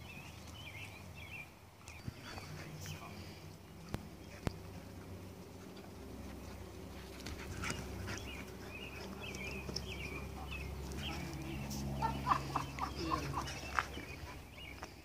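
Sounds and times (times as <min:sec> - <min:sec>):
dogs playing: 0:00.0 - 0:15.0.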